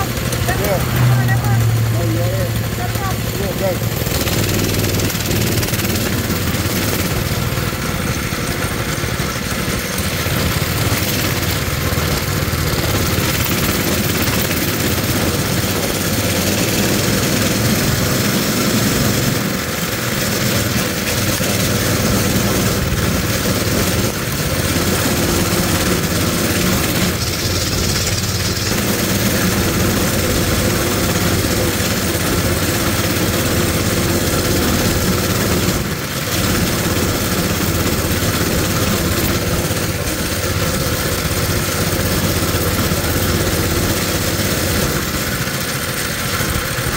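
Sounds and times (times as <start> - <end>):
mini bike engine running: 0.0 - 46.9.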